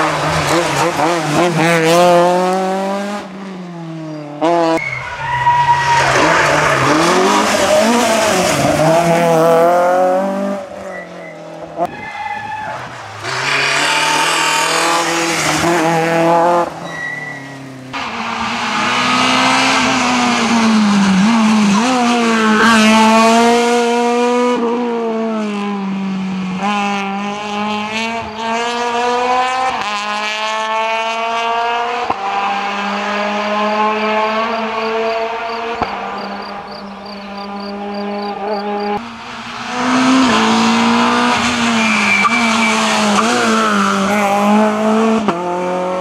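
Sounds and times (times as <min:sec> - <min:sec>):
rally car engines revving: 0:00.0 - 0:46.0.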